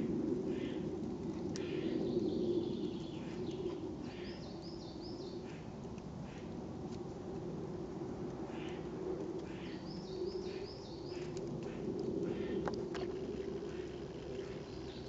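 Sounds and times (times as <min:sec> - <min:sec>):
wild birds calling and singing: 0:00.0 - 0:06.6, 0:08.5 - 0:15.0
low background noise: 0:00.0 - 0:15.0.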